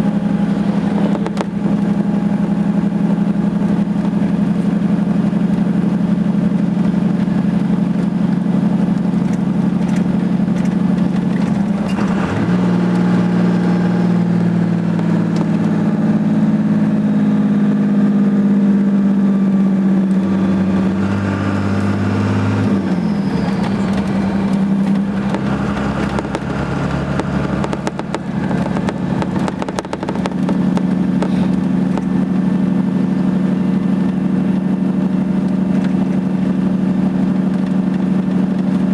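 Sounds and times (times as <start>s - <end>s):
diesel engine under exhaust brake: 0.0s - 38.9s.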